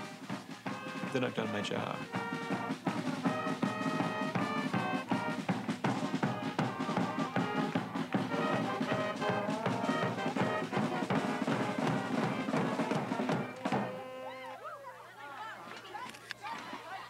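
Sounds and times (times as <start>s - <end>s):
band music with brass and drums: 0.0s - 14.2s.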